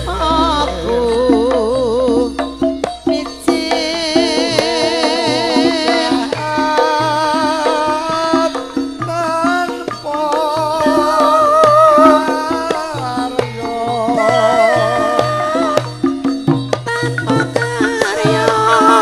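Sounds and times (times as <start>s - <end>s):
woman singing with vibrato: 0.0s - 16.0s, 16.8s - 19.0s
hand drum strokes: 0.0s - 19.0s
metallophone tones: 0.0s - 19.0s.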